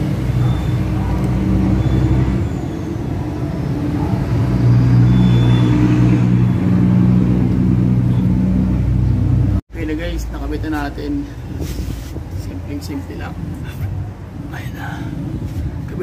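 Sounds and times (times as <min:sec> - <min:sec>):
vehicle engine low hum: 0:00.0 - 0:16.0.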